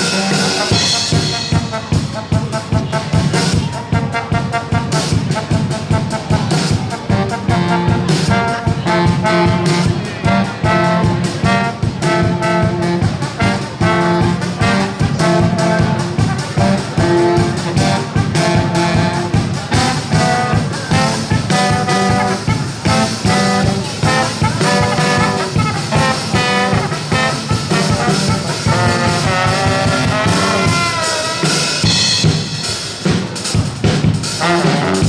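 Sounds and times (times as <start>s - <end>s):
brass band playing: 0.0s - 35.0s
steady drum beat: 0.0s - 35.0s.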